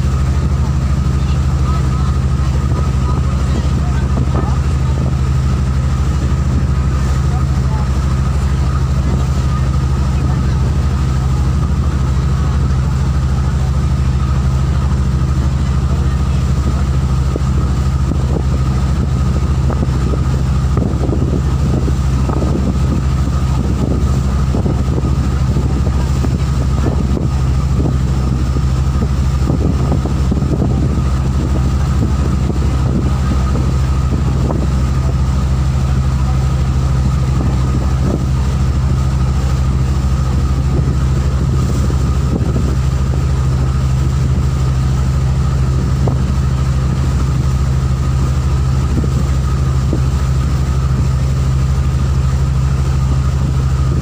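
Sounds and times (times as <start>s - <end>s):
motorboat engine droning: 0.0s - 54.0s.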